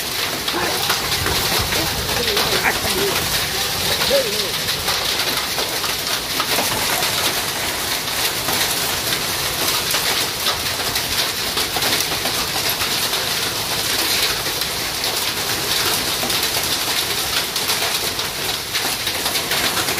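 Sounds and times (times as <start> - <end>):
heavy rain on metal roofs: 0.0 - 19.9.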